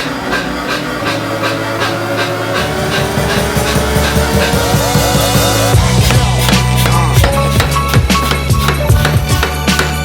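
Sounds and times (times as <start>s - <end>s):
instrumental music with drum beat: 0.0s - 10.0s.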